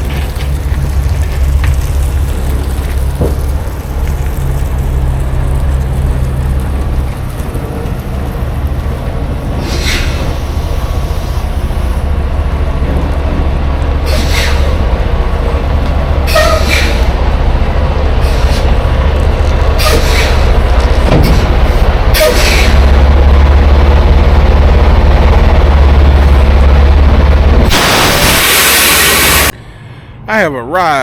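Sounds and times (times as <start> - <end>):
truck diesel engine droning: 0.0 - 30.3
road noise: 0.0 - 31.0.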